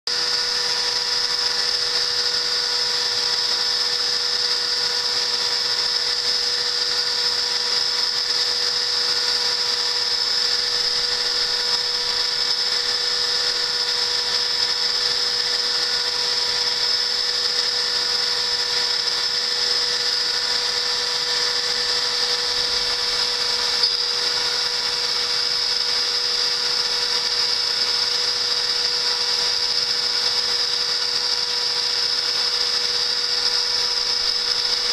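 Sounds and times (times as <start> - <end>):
router spindle whining: 0.1 - 34.9.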